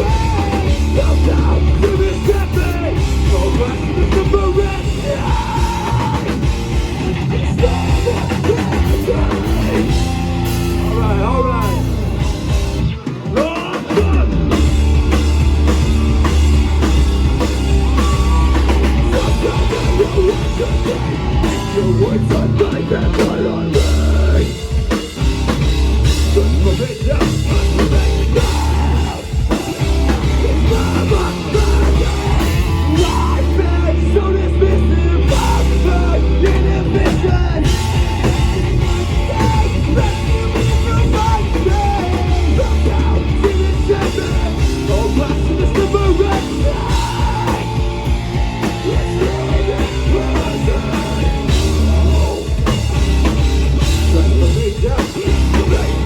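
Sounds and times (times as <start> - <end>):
heavy bass line: 0.0 - 56.0
rock band playing live: 0.0 - 56.0.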